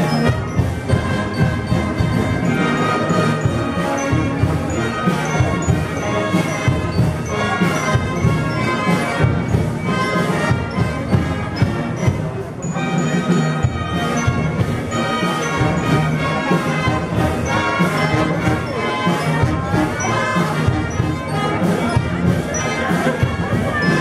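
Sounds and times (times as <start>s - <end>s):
brass band playing slow march: 0.0s - 24.0s
drum strikes on the beat: 0.0s - 24.0s
trombones: 0.0s - 24.0s.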